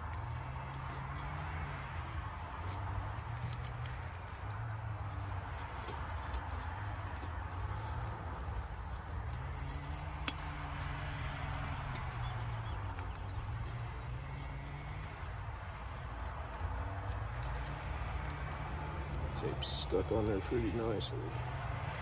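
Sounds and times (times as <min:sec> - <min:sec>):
tape peeling crackle: 0:00.0 - 0:19.7.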